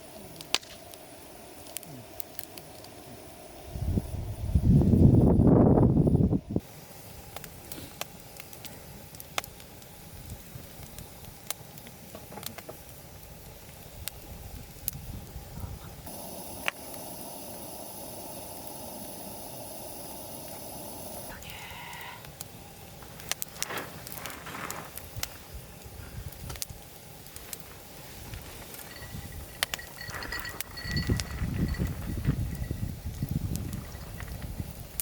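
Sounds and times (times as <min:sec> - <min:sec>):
campfire crackling: 0:00.0 - 0:35.0
steady hiss: 0:00.0 - 0:35.0.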